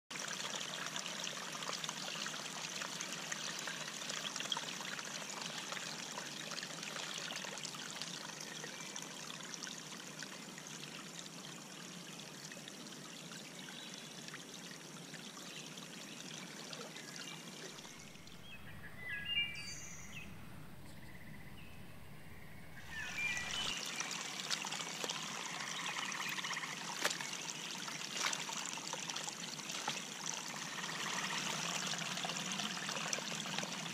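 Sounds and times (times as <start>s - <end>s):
water pouring and trickling: 0.1s - 18.5s, 22.8s - 33.9s.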